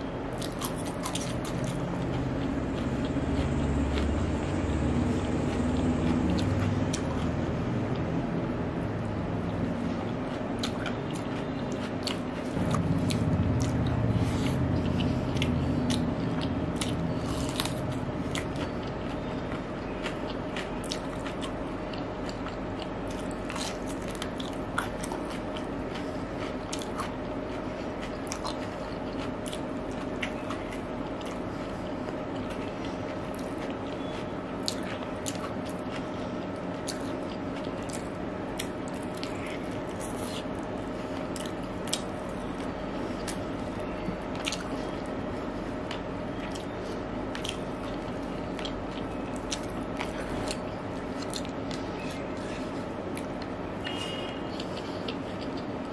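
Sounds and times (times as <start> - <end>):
chewing and crunching: 0.0 - 55.9
steady hum: 0.0 - 55.9.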